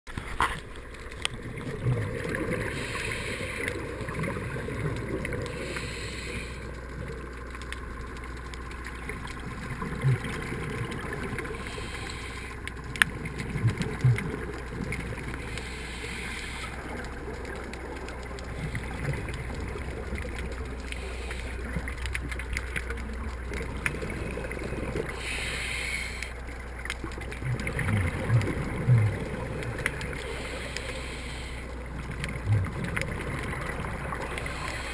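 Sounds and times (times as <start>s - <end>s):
low underwater rumble: 0.2s - 34.9s.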